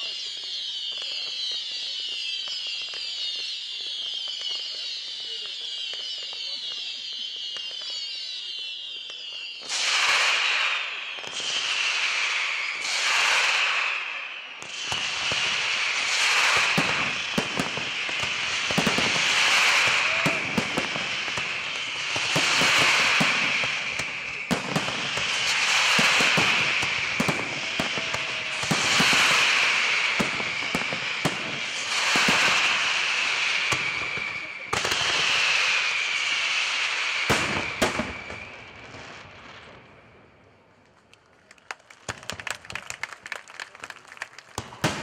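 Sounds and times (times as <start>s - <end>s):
fireworks bangs: 0.0s - 45.0s
fireworks hiss and crackle: 0.0s - 45.0s.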